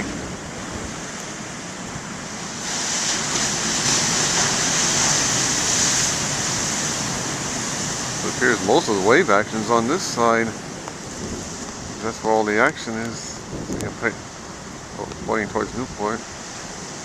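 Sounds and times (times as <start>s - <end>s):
waves breaking on rocky shore: 0.0s - 17.0s
wind on microphone: 0.0s - 17.0s.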